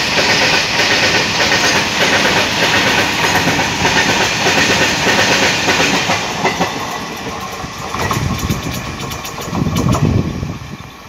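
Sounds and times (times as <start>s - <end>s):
steel wheels clattering over rail joints: 0.0s - 11.0s.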